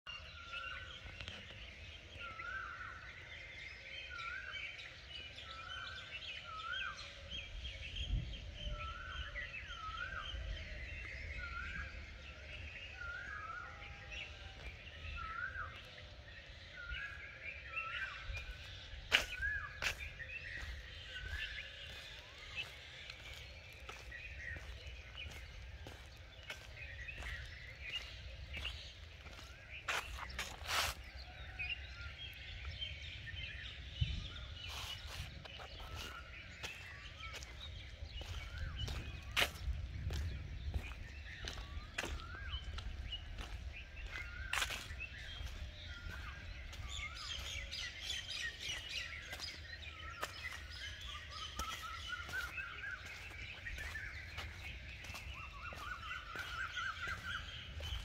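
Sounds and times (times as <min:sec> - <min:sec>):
birds chirping and twittering: 0:00.1 - 0:58.0.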